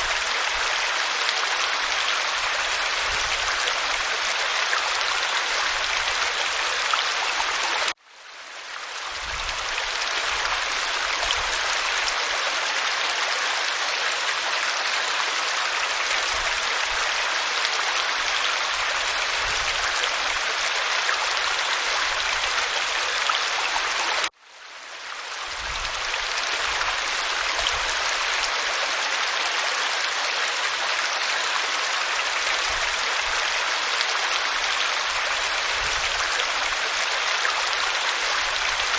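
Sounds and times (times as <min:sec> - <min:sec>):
waterfall rushing over rock: 0:00.0 - 0:08.0, 0:09.0 - 0:24.3, 0:25.4 - 0:38.9.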